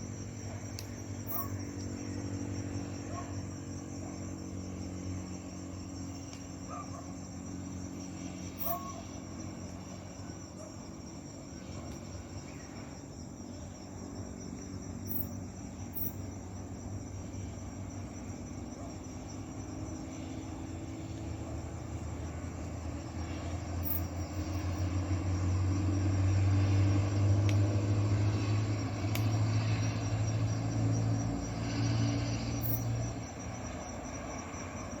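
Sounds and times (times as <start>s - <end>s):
crickets chirring: 0.0s - 35.0s
vehicle engine hum passing: 0.0s - 35.0s.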